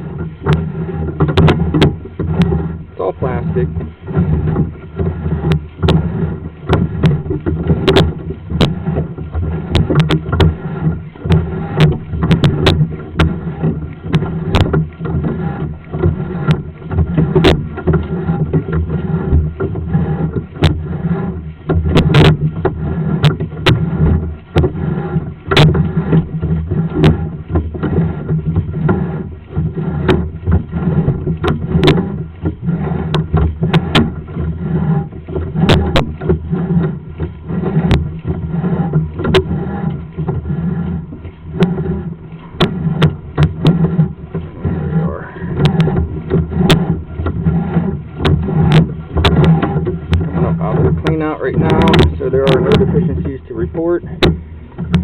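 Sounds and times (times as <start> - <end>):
steady low hum: 0.0 - 55.0
cable clicking and knocking: 4.1 - 34.3, 35.2 - 53.4, 54.1 - 55.0.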